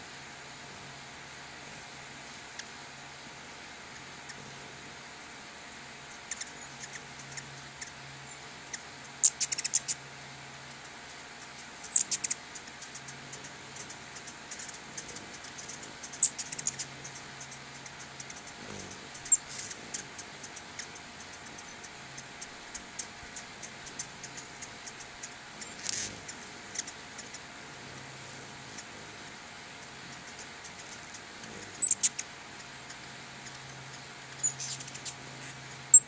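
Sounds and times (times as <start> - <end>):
hummingbird chip notes: 0.0 - 36.0.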